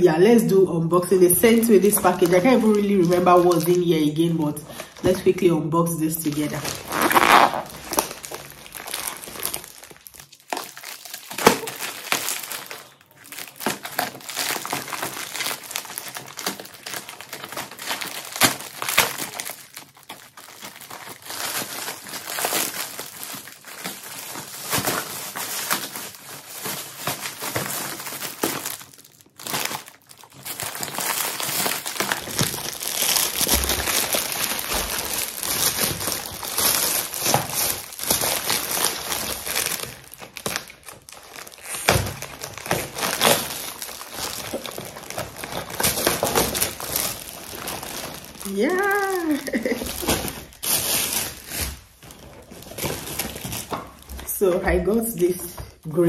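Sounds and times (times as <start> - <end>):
plastic packaging crinkling: 0.0 - 56.0
scissors cutting plastic bag: 6.3 - 51.8.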